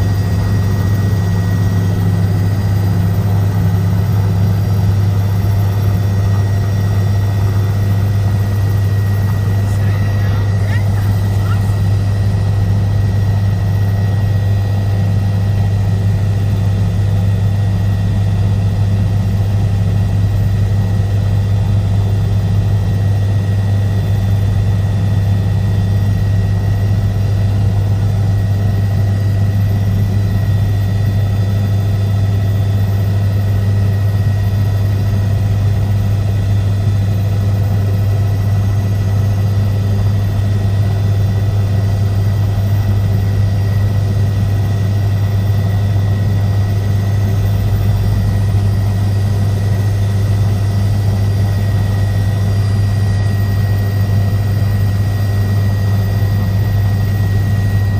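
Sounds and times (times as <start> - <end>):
helicopter engine and rotors: 0.0 - 57.9.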